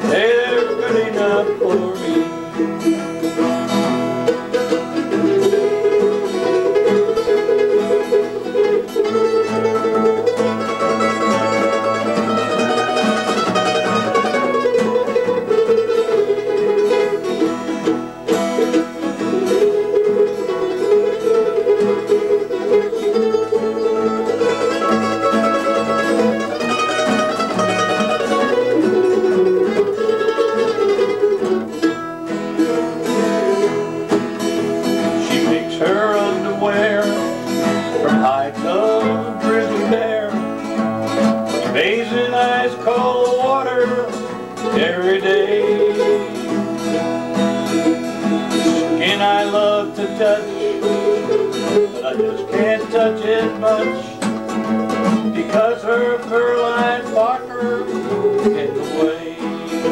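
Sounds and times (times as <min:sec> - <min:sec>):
plucked strings country music: 0:00.0 - 0:59.9.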